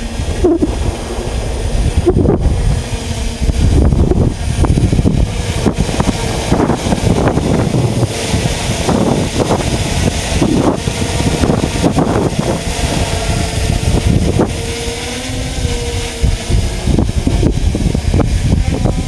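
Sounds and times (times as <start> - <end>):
drone propellers humming: 0.0 - 19.0
wind buffeting microphone: 0.0 - 19.0.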